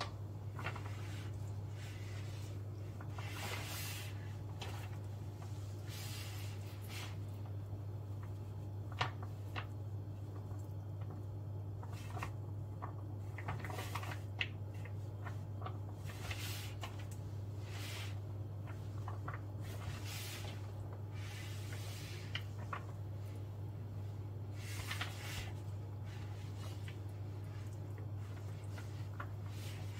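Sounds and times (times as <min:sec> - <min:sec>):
steady low hum: 0:00.0 - 0:29.9
soft rustles: 0:00.4 - 0:29.9.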